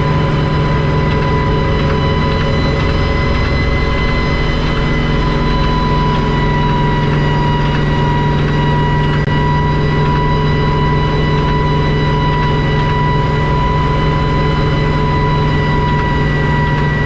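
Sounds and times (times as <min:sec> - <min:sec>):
helicopter engine drone: 0:00.0 - 0:17.0
high whine: 0:00.0 - 0:17.0.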